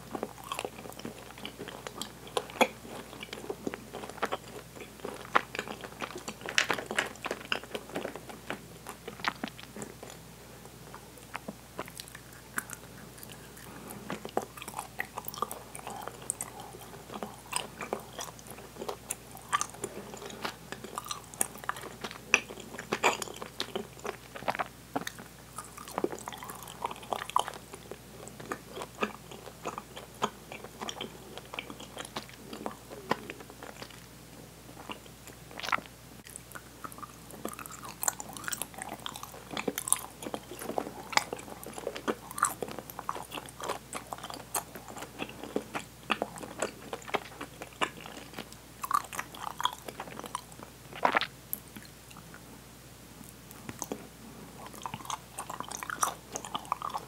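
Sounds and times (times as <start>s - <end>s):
wet chewing and mouth smacking: 0.0s - 52.4s, 53.2s - 57.0s.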